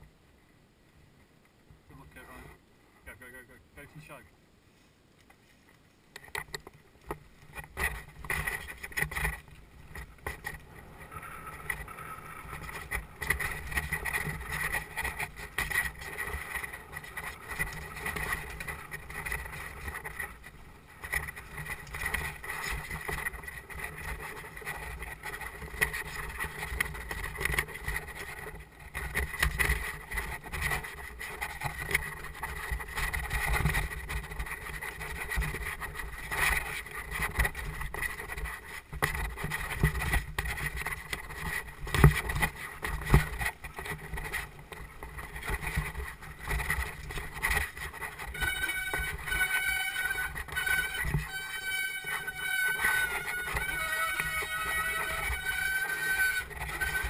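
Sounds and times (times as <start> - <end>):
bike and camera rattling: 6.1 - 57.0.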